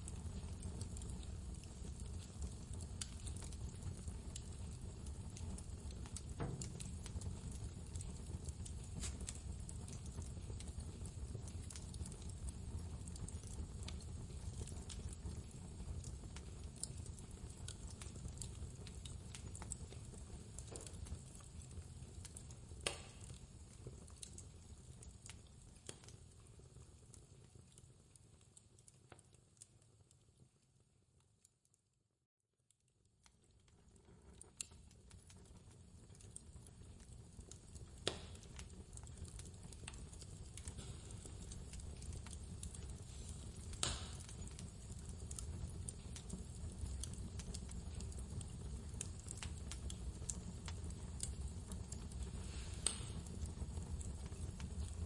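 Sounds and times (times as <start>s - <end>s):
wood fire crackling: 0.0s - 31.6s, 32.7s - 55.0s.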